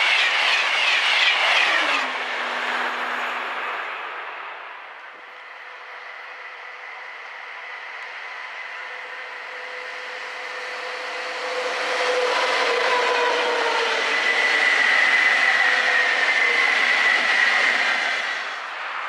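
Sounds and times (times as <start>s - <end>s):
locomotives passing on rails: 0.0s - 19.0s
steady locomotive whine: 0.0s - 19.0s.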